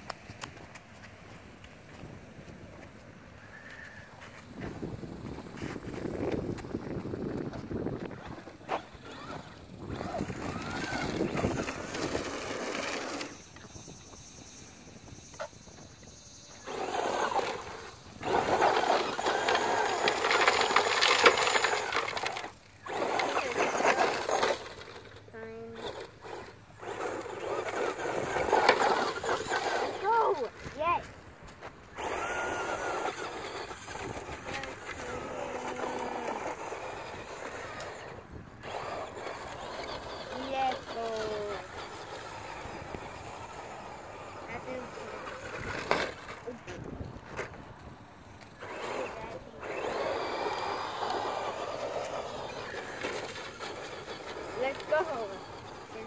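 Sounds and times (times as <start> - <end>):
rc truck driving over dirt: 0.0 - 56.0.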